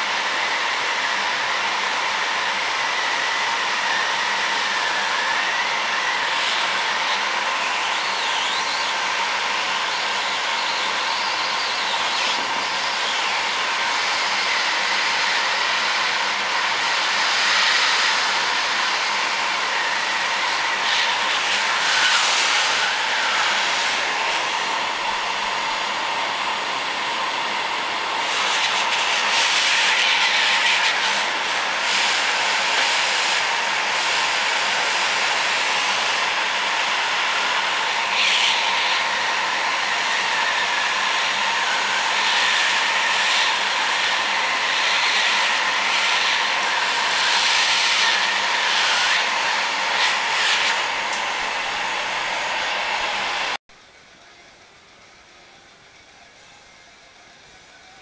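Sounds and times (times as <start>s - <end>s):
heat gun blowing air: 0.0s - 53.6s.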